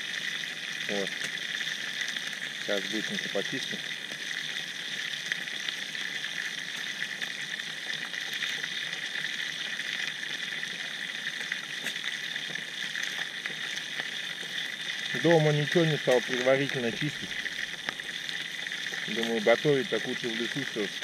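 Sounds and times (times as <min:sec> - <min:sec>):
chicken frying in oil: 0:00.0 - 0:21.0.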